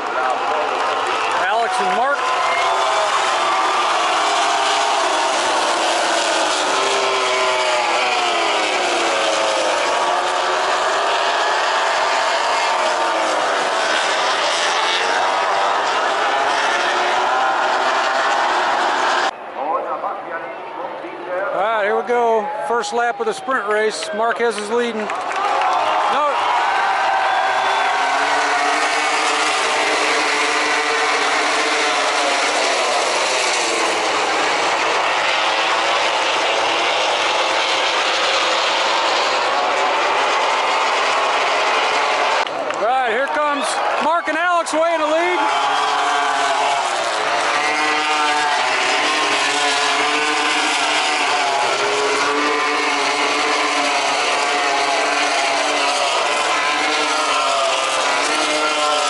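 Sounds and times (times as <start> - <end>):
racing motorcycles at high revs: 0.0 - 19.4, 27.4 - 42.5, 46.1 - 59.0.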